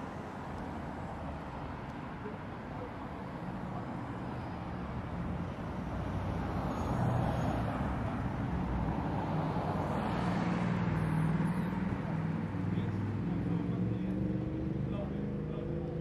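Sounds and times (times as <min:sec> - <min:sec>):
background traffic: 0:00.0 - 0:16.0
vehicle engine and tyre noise: 0:00.0 - 0:16.0.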